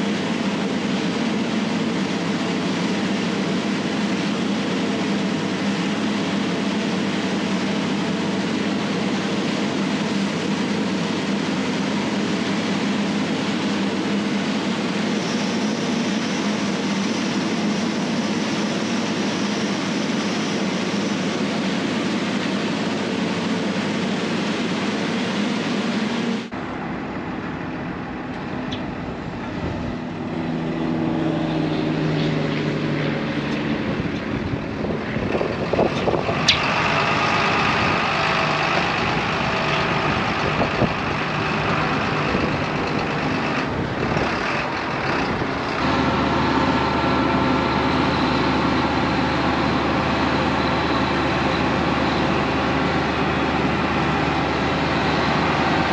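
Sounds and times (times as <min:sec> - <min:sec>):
rush of blown silage: 0:00.0 - 0:28.2, 0:28.9 - 0:55.9
diesel farm machinery running: 0:00.0 - 0:55.9
tractor engines droning: 0:00.0 - 0:55.9.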